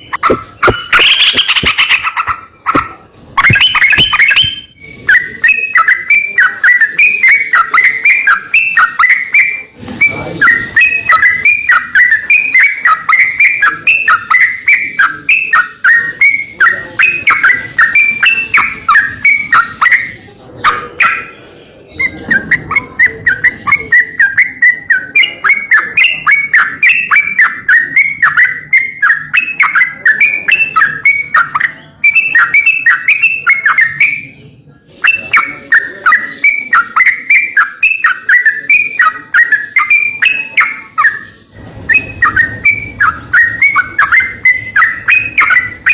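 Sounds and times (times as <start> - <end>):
songbird chirping: 0.0 - 45.9.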